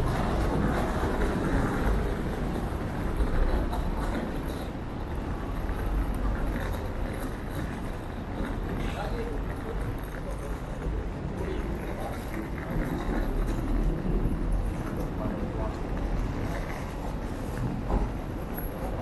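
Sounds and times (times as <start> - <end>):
cars passing on street: 0.0 - 19.0.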